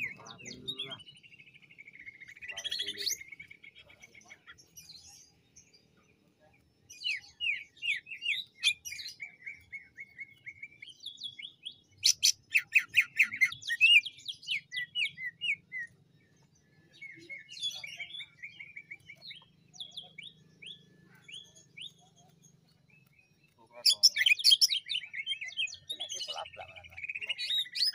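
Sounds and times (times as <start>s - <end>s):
bird singing chattering trills: 0.0s - 27.9s.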